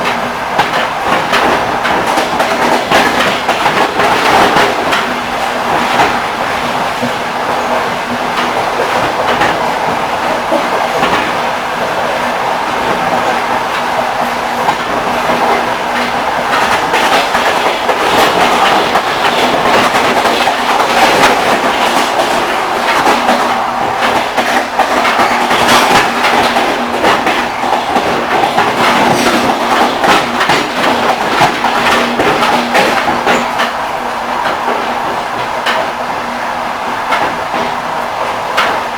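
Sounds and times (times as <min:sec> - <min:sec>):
train wheels clattering over joints: 0:00.0 - 0:38.9.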